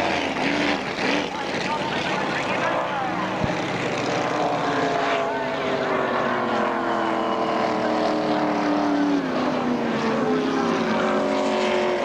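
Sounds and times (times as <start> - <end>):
powerboat engine running hard: 0.0 - 12.0.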